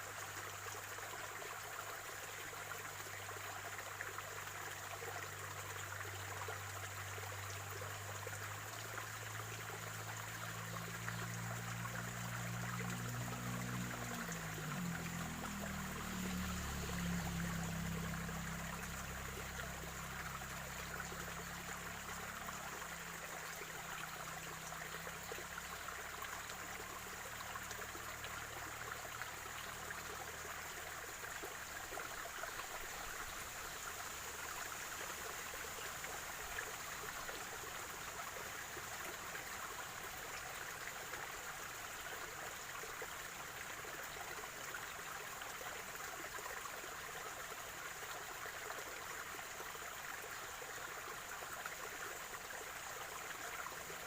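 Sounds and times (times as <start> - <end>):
stream water trickling and splashing: 0.0 - 54.0.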